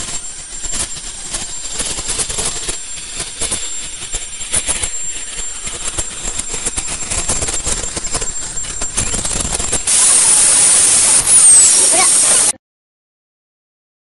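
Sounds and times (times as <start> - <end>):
mechanical clicking and clatter: 0.0 - 12.5
high-pitched machine whine: 0.0 - 12.6.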